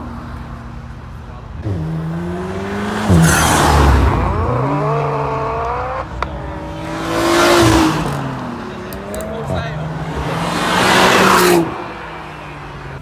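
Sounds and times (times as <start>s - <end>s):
car engines revving: 0.0s - 13.0s
cars passing close: 0.0s - 13.0s.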